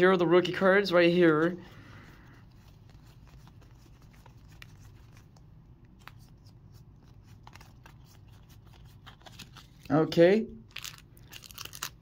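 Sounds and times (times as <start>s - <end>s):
low steady hum: 0.0s - 12.0s
trading cards shuffling: 1.1s - 10.0s, 10.7s - 12.0s.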